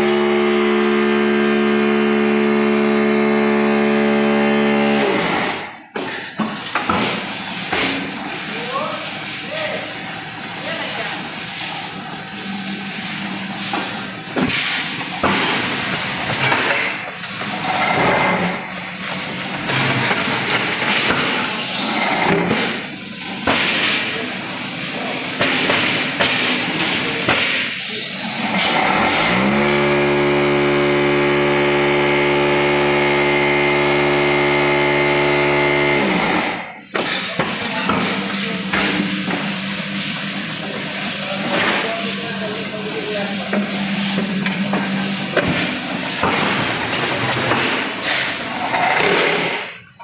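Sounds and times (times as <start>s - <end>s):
loud steady vibrator hum: 0.0s - 5.9s, 6.7s - 50.0s.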